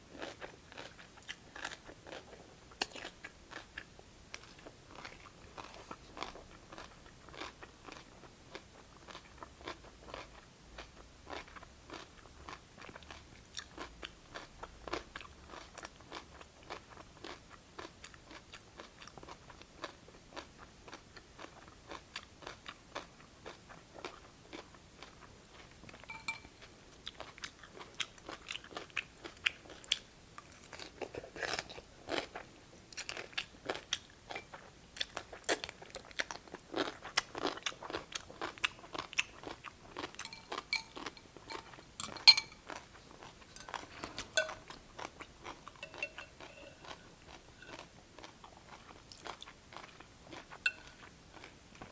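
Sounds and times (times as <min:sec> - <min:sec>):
chewing crisp cucumber: 0:00.1 - 0:51.9.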